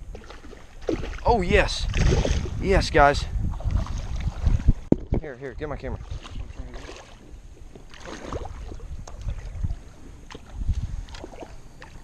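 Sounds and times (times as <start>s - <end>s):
water splashing and sloshing: 0.0s - 12.0s
wind and handling rumble: 0.0s - 12.0s.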